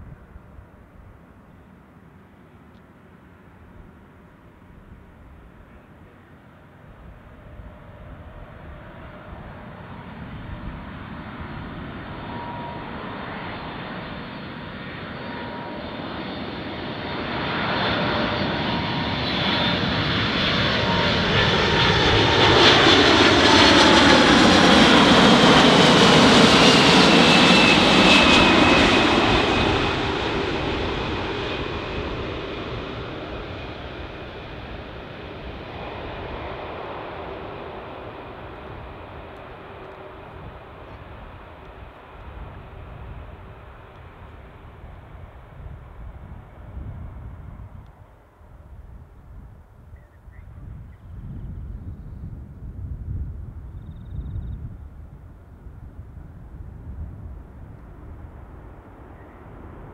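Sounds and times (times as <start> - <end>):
jet airliner flying low overhead: 0.0 - 59.9.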